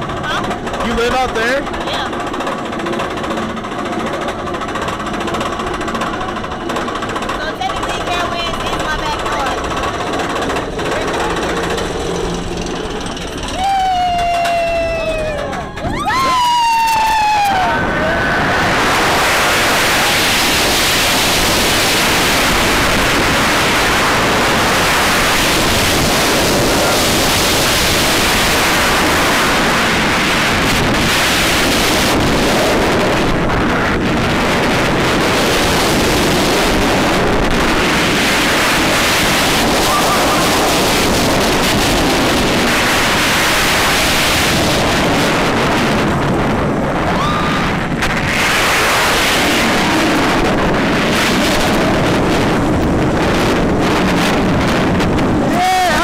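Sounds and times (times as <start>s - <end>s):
loud wind rush on microphone: 0.0s - 56.0s
roller coaster train on track: 0.0s - 56.0s.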